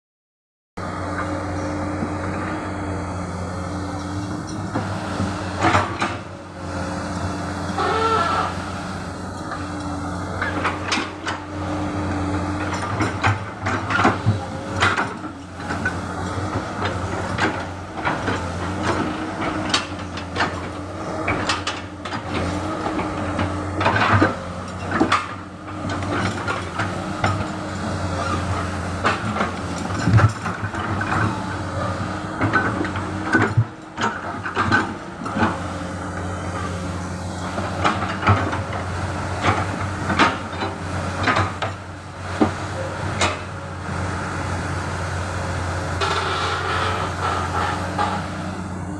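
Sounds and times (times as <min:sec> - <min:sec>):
excavator diesel engine running: 0:00.8 - 0:48.9.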